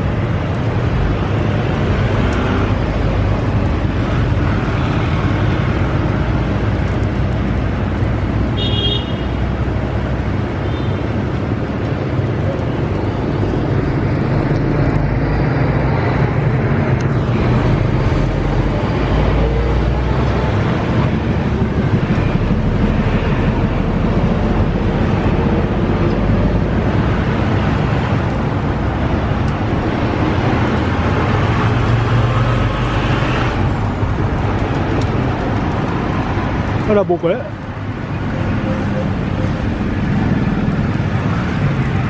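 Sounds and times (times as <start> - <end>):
low traffic rumble: 0.0 - 42.0.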